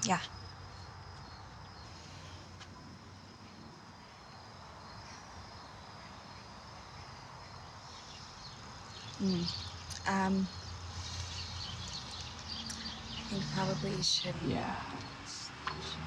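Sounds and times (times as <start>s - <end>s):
insects chirring: 0.0s - 16.0s
low background hum: 0.0s - 16.0s.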